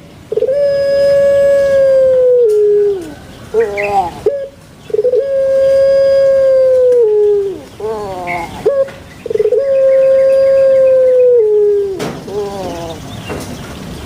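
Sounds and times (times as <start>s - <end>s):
dove cooing: 0.3s - 13.1s.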